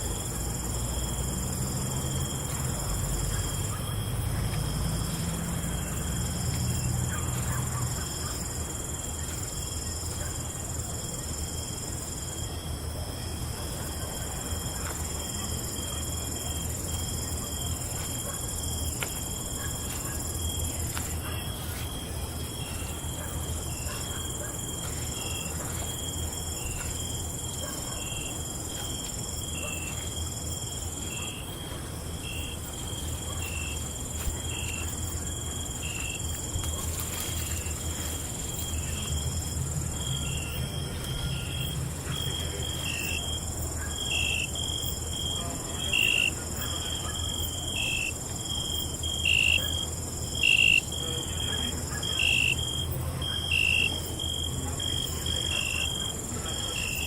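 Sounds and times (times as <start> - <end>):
cricket chirping: 0.0 - 57.0
crickets trilling: 0.0 - 57.0.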